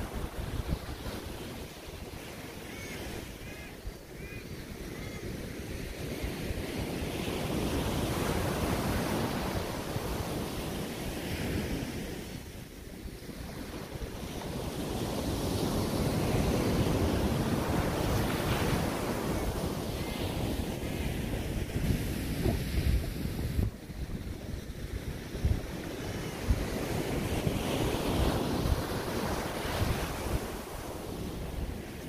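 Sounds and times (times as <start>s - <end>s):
ocean surf breaking on beach: 0.0s - 32.0s
wind buffeting microphone: 0.0s - 32.0s.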